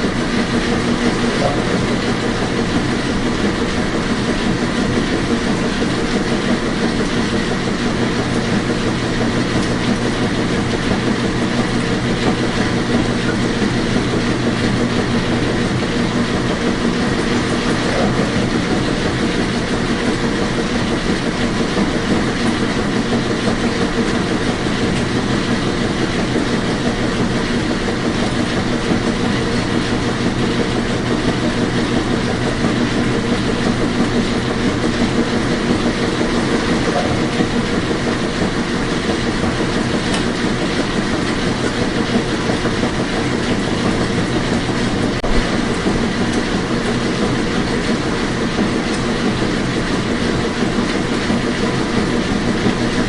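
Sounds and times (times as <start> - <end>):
washing machine whir and rumble: 0.0 - 53.0.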